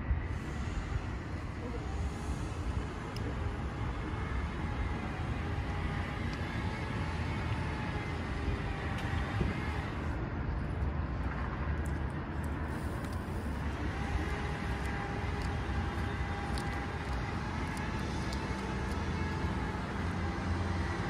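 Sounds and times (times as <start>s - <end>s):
faint steady whine: 0.0s - 21.0s
low rumble of vehicles: 0.0s - 21.0s.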